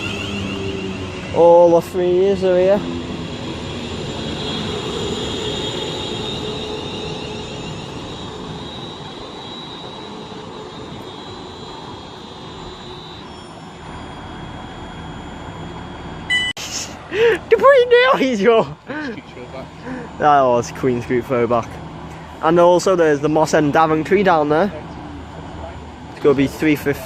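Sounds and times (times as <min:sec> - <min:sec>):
electric train hum and whine: 0:00.0 - 0:27.0.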